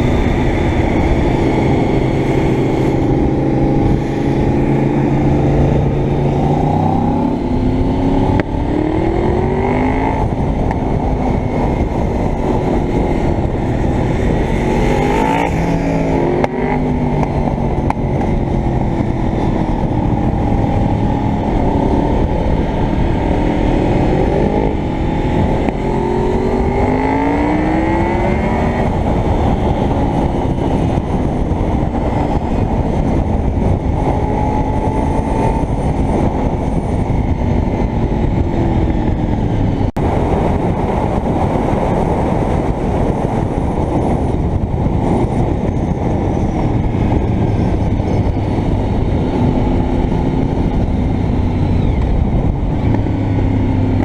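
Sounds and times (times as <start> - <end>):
motorcycle engine accelerating: 0.0 - 54.0
wind rush on microphone: 0.0 - 54.0.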